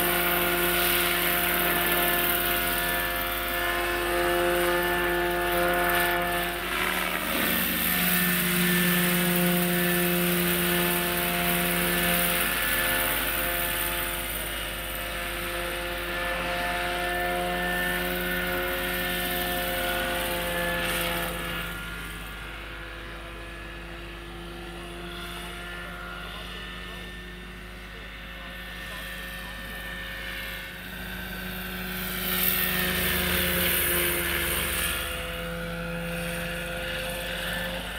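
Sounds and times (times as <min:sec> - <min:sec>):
model helicopter motor and rotors: 0:00.0 - 0:37.9.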